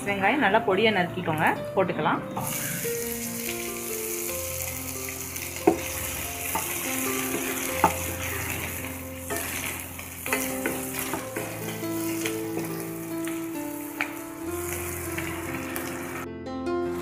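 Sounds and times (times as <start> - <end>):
soft background music: 0.0 - 17.0
onions sizzling in hot oil: 2.3 - 16.3.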